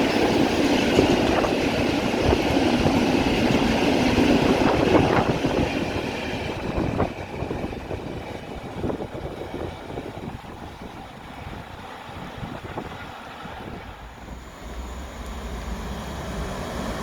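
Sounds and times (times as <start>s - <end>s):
train wheels clattering on track: 0.0s - 17.0s
wind buffeting microphone: 0.0s - 17.0s.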